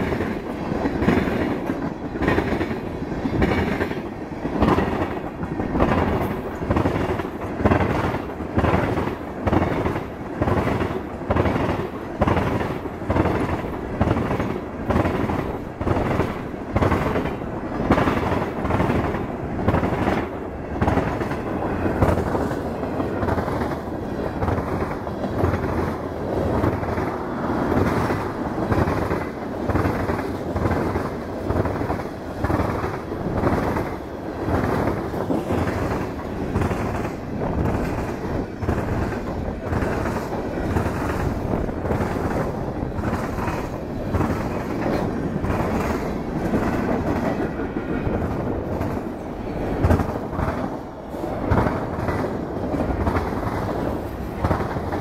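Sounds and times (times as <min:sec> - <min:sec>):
train rumble: 0:00.0 - 0:55.0
train wheels clattering over rail joints: 0:00.0 - 0:55.0.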